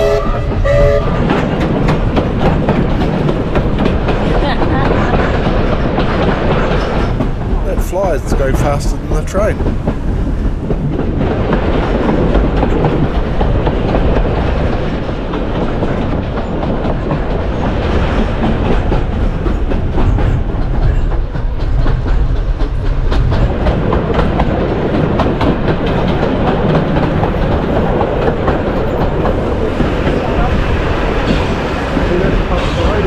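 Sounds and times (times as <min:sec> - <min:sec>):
railway carriage rumbling: 0:00.0 - 0:33.0
wheels clicking over rails: 0:00.5 - 0:33.0.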